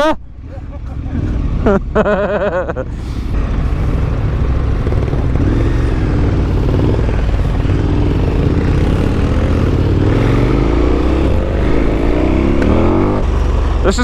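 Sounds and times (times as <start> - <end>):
motorcycle engine revving: 0.4 - 14.0.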